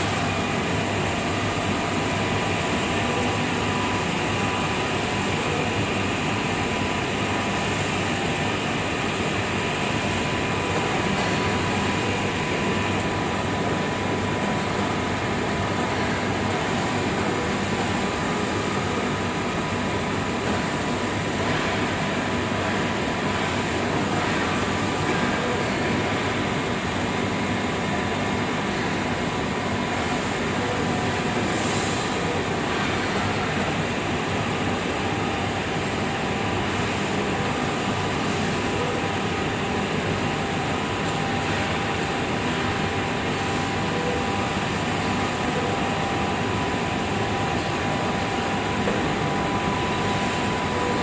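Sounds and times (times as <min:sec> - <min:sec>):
machine running with whine: 0:00.0 - 0:51.0.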